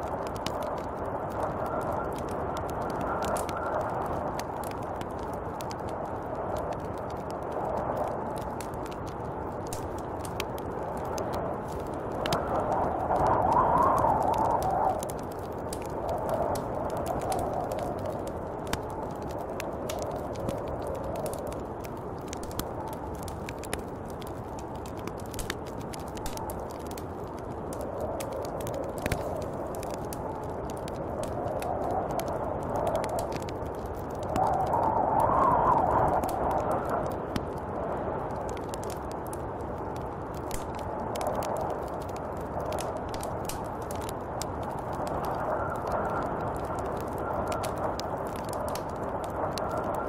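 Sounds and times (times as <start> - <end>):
sharp crackles and ticks: 0.0 - 50.0
snowstorm wind blowing: 0.0 - 50.0.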